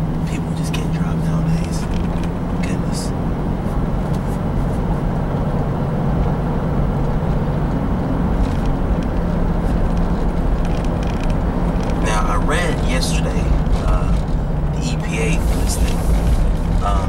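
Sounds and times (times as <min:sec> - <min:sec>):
car engine droning: 0:00.0 - 0:17.0
tyre and road noise: 0:00.0 - 0:17.0.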